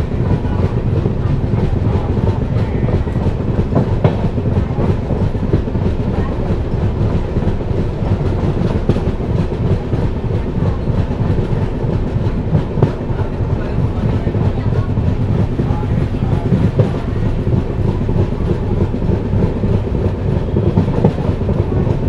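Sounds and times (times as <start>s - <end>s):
train wheels rumbling on rails: 0.0s - 22.0s
wheels clacking on rail joints: 0.0s - 22.0s.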